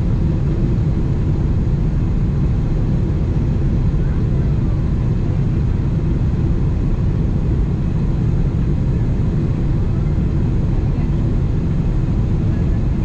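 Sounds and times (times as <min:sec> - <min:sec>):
airplane cabin engine rush: 0:00.0 - 0:13.0.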